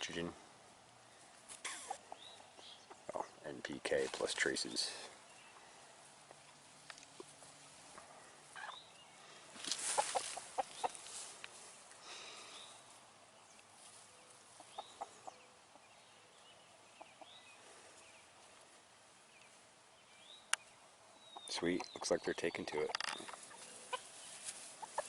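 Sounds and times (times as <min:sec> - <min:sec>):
rustle: 0:00.0 - 0:25.0
chickens clucking: 0:01.5 - 0:16.0, 0:16.6 - 0:18.7, 0:20.5 - 0:25.0.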